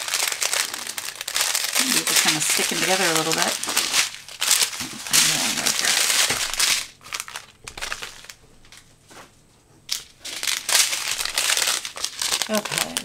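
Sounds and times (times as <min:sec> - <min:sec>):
plastic bags crinkling: 0:00.0 - 0:08.9, 0:09.9 - 0:13.0.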